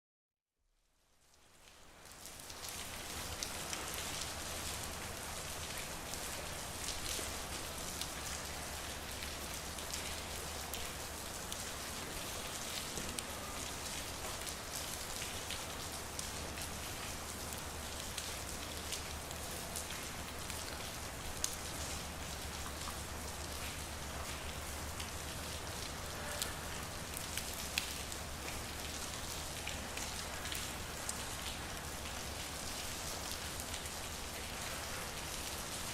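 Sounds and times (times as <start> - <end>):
steady rain hissing: 1.0 - 35.9.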